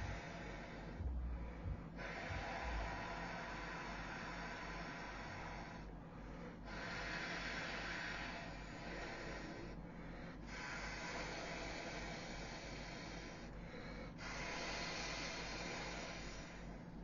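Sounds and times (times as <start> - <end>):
air pump rushing air: 0.0 - 5.9, 6.5 - 17.0
low hum: 0.0 - 17.0.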